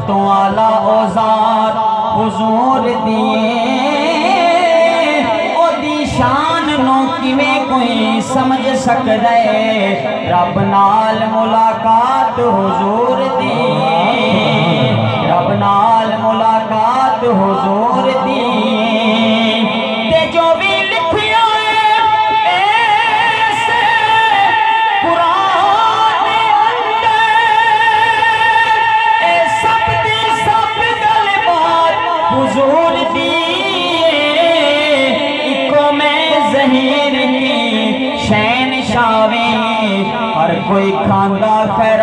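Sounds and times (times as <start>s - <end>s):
man singing into microphone: 0.0s - 42.0s.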